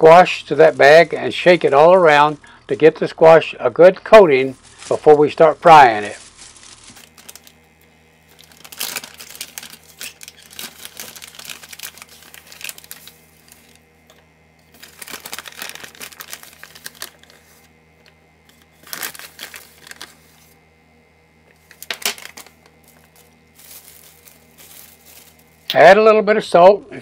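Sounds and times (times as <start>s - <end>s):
plastic and paper bags crinkling: 0.0s - 2.6s, 4.2s - 20.6s, 21.4s - 25.8s.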